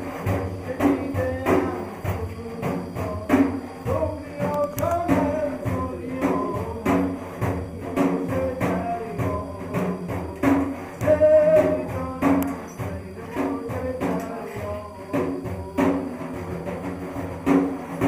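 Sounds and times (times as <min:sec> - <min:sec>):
frame drum with jingles: 0:00.0 - 0:18.0.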